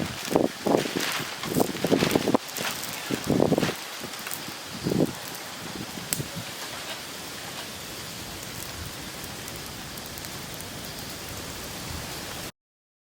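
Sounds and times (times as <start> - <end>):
steady rain falling: 0.0 - 12.5.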